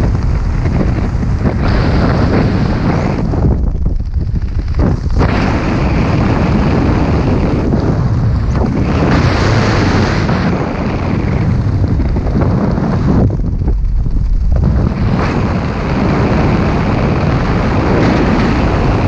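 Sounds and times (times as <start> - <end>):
wind rushing across microphone: 0.0 - 19.0.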